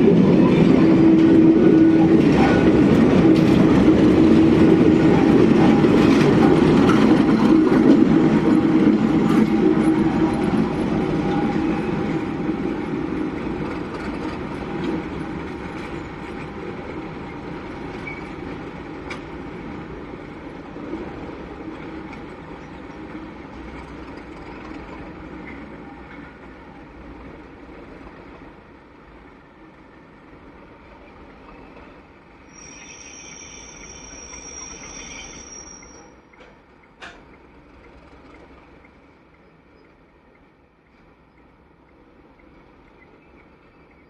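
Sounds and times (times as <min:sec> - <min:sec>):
train wheel clatter: 0:00.0 - 0:19.6, 0:20.8 - 0:28.4, 0:31.4 - 0:44.0
diesel locomotive engine rumble: 0:00.0 - 0:44.0.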